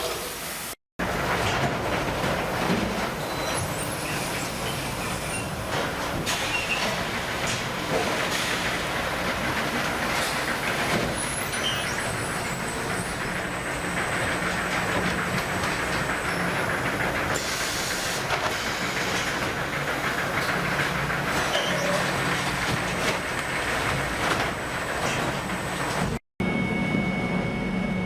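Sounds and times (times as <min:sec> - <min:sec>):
machinery humming: 0:01.0 - 0:28.0
light machinery clatter: 0:01.1 - 0:26.2.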